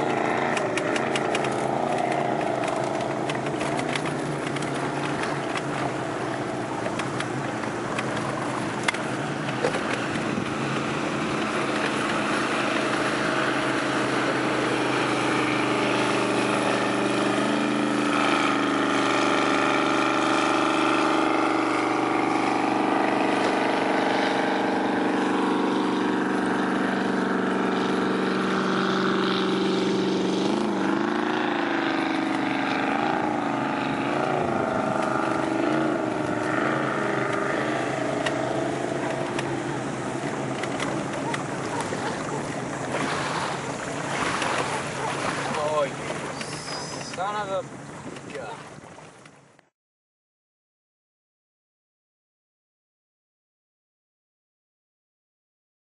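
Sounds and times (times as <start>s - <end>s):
motorboat engine running: 0.0s - 49.7s.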